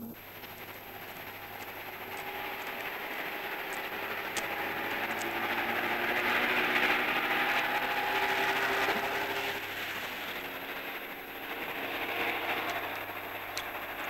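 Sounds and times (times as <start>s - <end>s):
sustained low tones: 0.0s - 14.0s
water washing against seawall: 0.2s - 14.0s.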